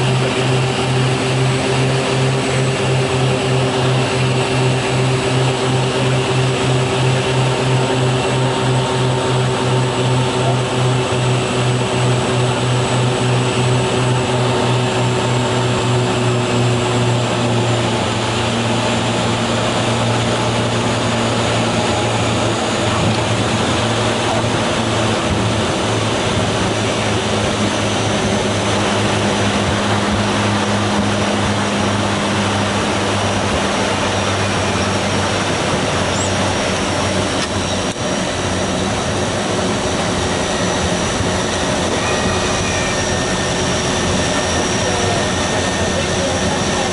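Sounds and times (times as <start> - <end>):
turboprop engines droning: 0.0 - 46.9.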